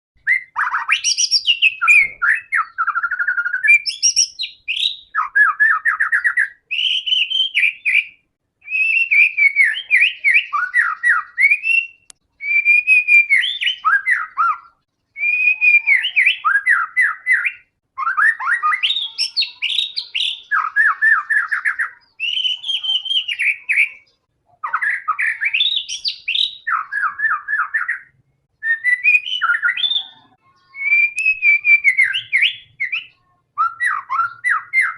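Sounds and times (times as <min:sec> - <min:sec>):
songbird whistling song: 0:00.2 - 0:34.9.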